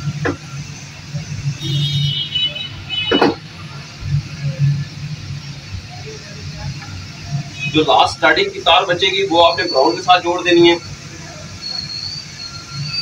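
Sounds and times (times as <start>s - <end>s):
low engine rumble: 0.0s - 11.7s.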